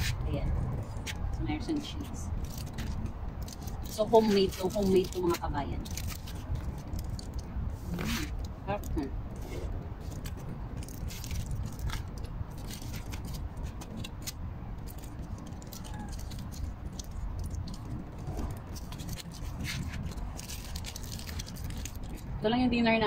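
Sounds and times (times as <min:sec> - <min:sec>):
low rumble: 0:00.0 - 0:22.9
wrappers crinkling: 0:00.8 - 0:22.4.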